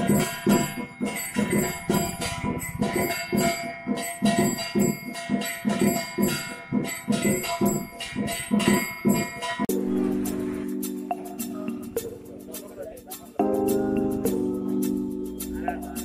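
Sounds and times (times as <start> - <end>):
bells ringing: 0.0 - 16.0
drum beats: 0.0 - 16.0.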